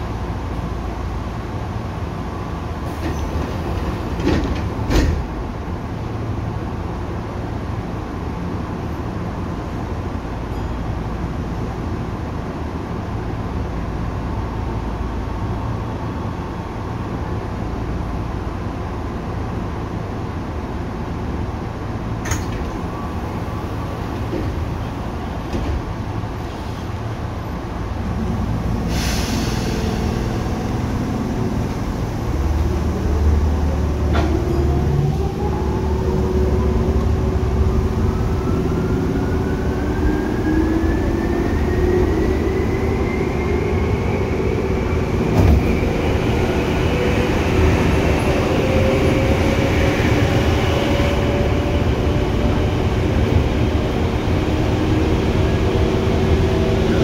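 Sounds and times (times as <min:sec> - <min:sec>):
rumble of running train car: 0:00.0 - 0:57.0.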